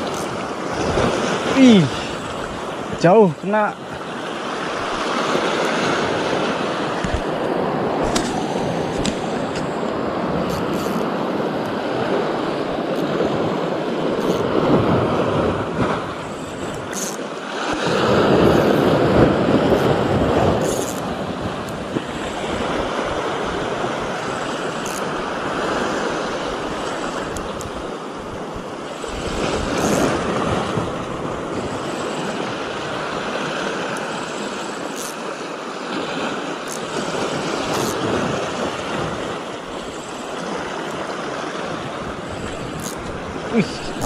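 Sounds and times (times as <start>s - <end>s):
sea waves washing onto beach: 0.0s - 44.0s.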